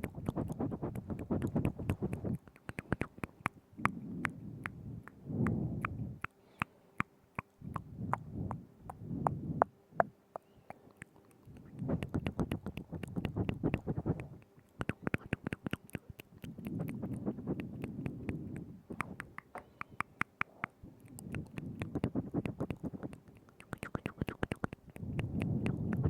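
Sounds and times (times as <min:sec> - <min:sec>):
wet tongue clicks and smacks: 0:00.0 - 0:09.4, 0:10.0 - 0:26.0.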